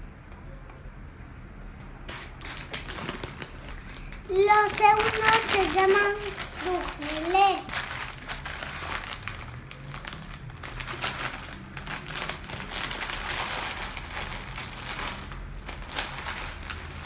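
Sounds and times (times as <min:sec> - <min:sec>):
plastic snack bag crinkling: 0:02.1 - 0:17.0.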